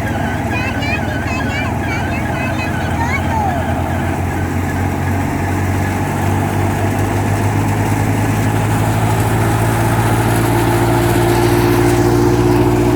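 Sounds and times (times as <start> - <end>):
low engine hum: 0.0 - 12.9
wheat thresher running: 0.0 - 12.9.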